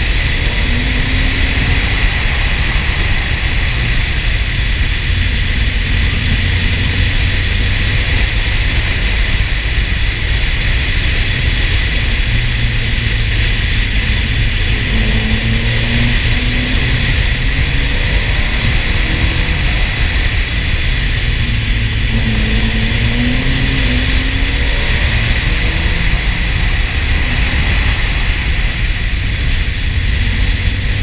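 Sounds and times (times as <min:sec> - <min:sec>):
car engine drone: 0:00.0 - 0:31.0
wind and road noise: 0:00.0 - 0:31.0.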